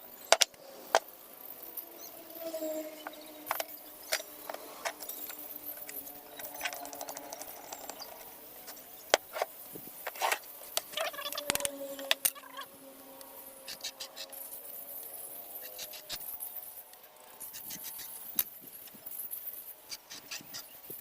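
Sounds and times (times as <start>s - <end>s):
faint steady hum: 0.0s - 20.1s.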